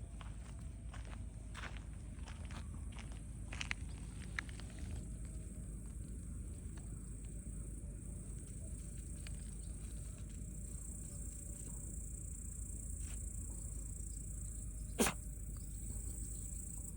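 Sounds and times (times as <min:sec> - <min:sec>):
insects chirping: 0:00.4 - 0:16.9.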